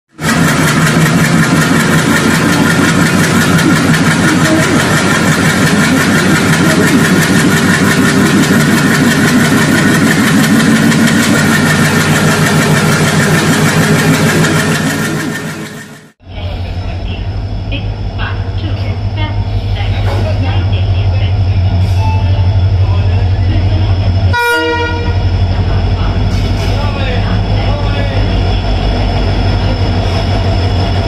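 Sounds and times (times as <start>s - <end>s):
diesel locomotive engine running: 0.1s - 31.0s.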